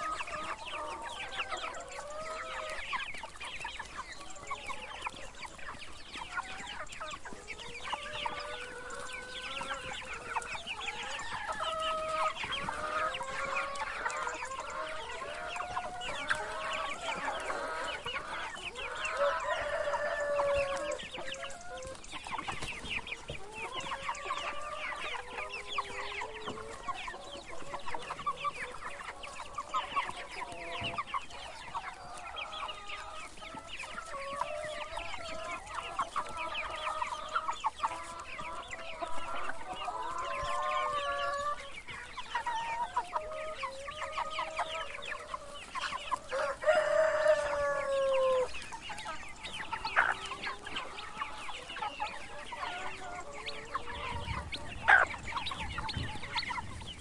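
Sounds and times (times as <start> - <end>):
chickens clucking: 0.0 - 57.0
chicks peeping: 0.0 - 57.0
drawn-out falling chicken call: 0.0 - 57.0.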